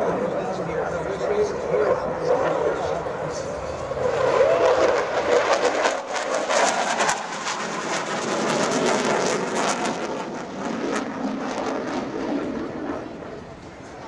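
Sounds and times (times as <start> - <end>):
fighter jet roaring past: 0.0 - 14.0.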